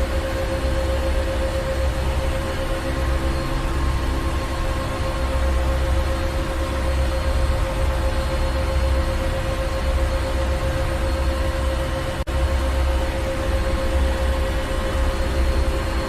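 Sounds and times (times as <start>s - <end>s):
constant hum: 0.0s - 16.0s
engine room machinery droning: 0.0s - 16.0s.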